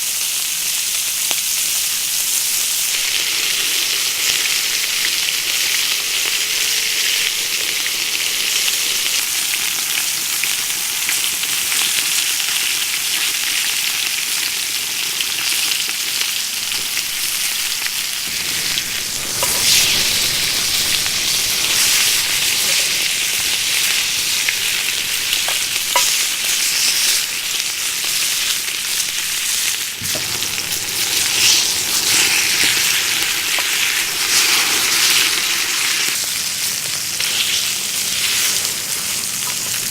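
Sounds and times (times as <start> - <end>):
food sizzling over a campfire: 0.0 - 39.9.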